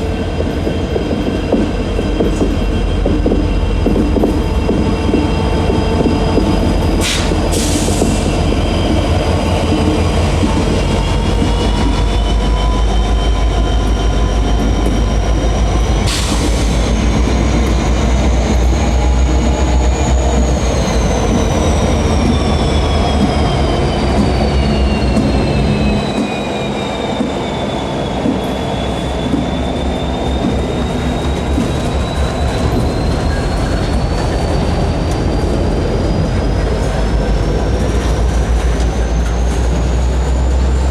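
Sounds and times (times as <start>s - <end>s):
wheel squeal: 6.8s - 40.8s.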